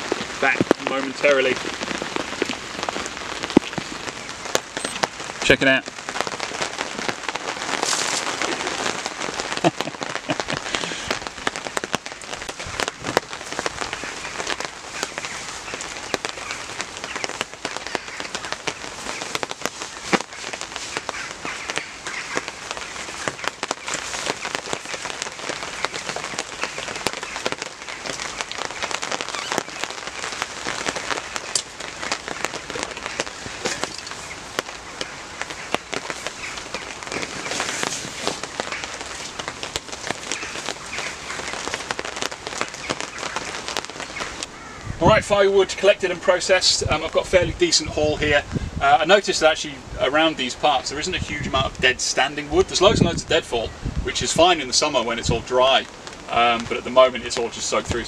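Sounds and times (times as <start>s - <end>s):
heavy rain on tarp: 0.0s - 58.0s.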